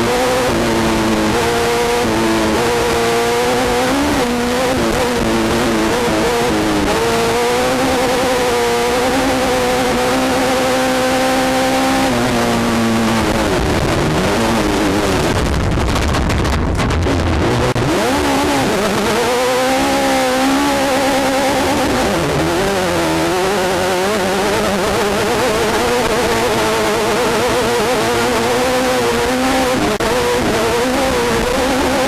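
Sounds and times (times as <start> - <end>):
race car engine revving: 0.0 - 32.0
wind and chassis noise: 0.0 - 32.0.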